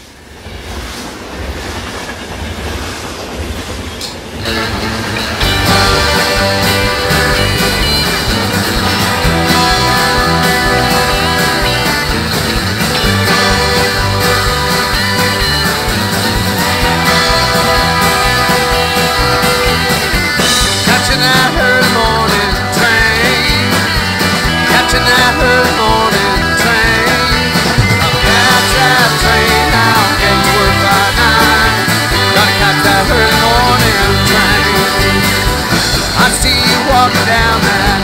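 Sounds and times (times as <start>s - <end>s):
live country band playing: 4.4s - 38.0s
wavering melodic lead line: 4.4s - 38.0s.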